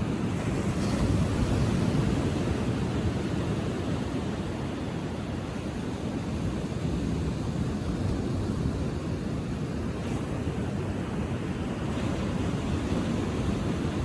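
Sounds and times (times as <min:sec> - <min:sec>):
ocean surf breaking on beach: 0:00.0 - 0:14.0.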